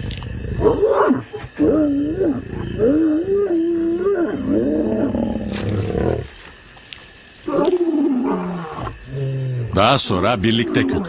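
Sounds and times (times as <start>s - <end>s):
lions growling calls: 0.1s - 6.4s, 7.5s - 11.0s.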